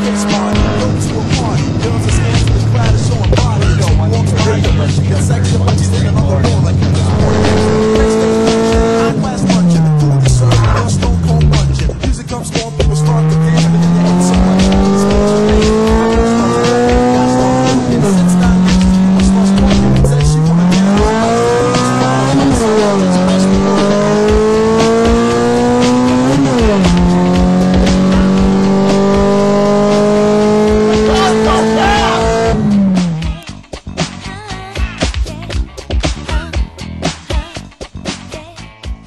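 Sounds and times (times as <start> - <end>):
car engine revving through gears: 0.0 - 33.4.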